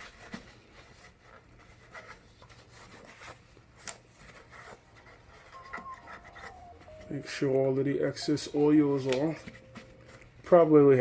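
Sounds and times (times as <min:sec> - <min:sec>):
hands rubbing and scraping: 0:00.0 - 0:10.3.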